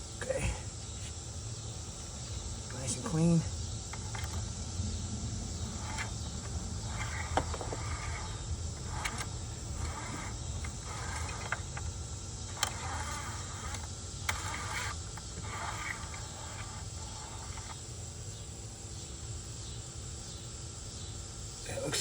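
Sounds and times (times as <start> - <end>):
low steady rumble: 0.0 - 18.8
high-pitched insect chorus: 0.0 - 22.0.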